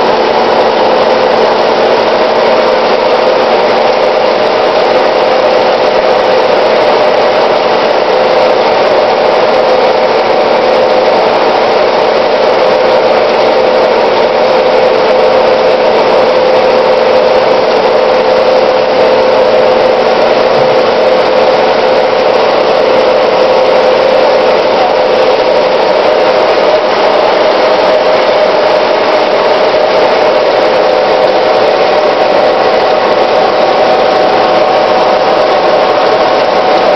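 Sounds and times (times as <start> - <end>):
flotation machine drone: 0.0 - 36.9.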